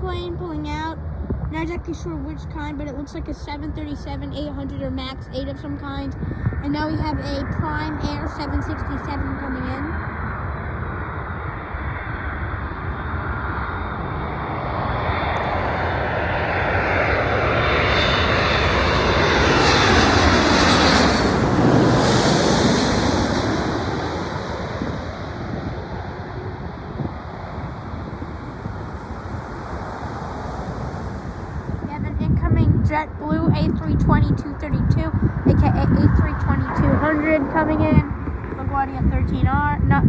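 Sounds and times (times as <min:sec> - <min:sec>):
jet engines passing overhead: 0:00.0 - 0:40.0.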